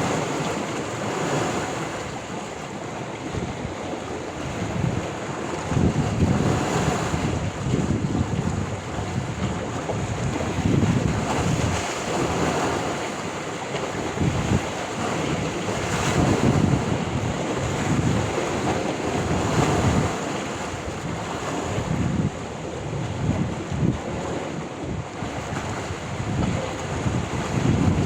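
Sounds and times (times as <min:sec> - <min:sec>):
sea waves washing onto shore: 0:00.0 - 0:28.0
wind buffeting microphone: 0:00.0 - 0:28.0.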